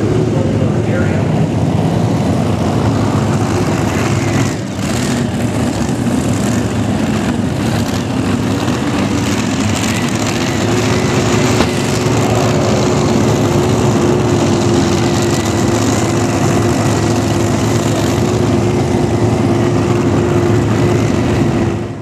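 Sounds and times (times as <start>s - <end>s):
heavy diesel engine running: 0.0s - 22.0s
steady high whine: 0.0s - 22.0s.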